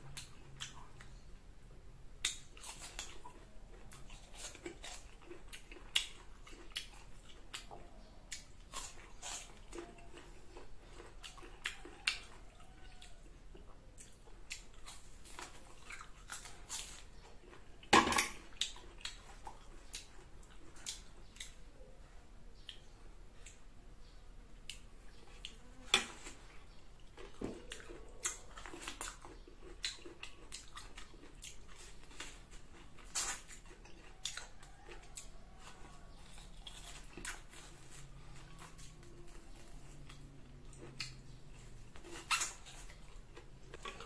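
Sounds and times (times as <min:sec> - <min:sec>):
chewing and crunching fruit: 0:00.0 - 0:44.0.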